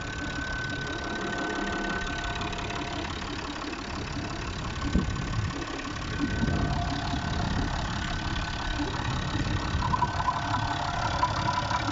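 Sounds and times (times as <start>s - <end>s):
diesel engine idling: 0.0s - 11.9s
engine knock: 0.0s - 11.9s
faint engine whine: 0.0s - 11.9s.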